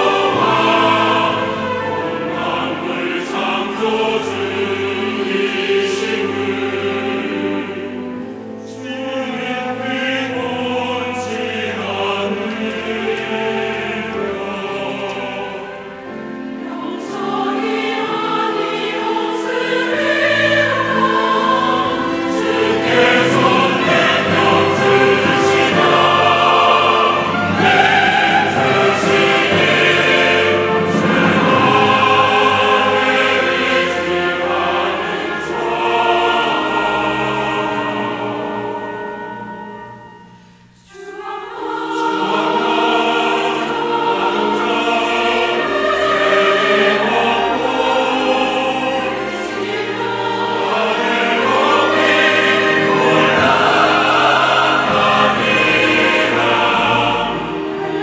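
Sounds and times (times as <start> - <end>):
choir singing: 0.0 - 58.0
orchestra with strings: 0.0 - 58.0.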